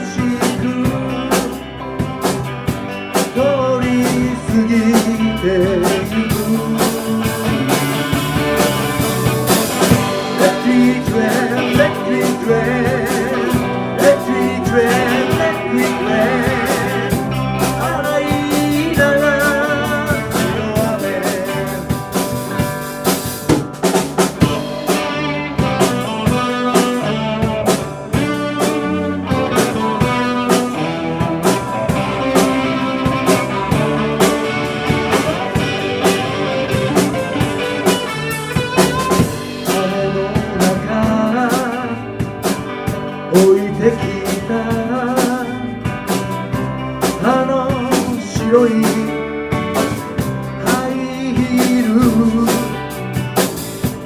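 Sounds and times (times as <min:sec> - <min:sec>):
bass guitar: 0:00.0 - 0:54.0
drum kit: 0:00.0 - 0:54.0
guitar line: 0:00.0 - 0:54.0
rock band playing: 0:00.0 - 0:54.0.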